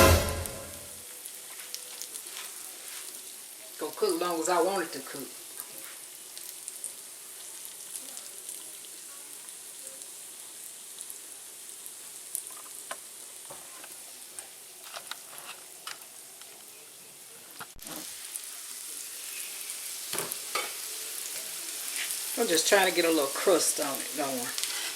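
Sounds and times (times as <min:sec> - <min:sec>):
potatoes sizzling in oil: 0:00.1 - 0:24.9
oil crackling and popping: 0:01.0 - 0:16.8, 0:17.5 - 0:24.9.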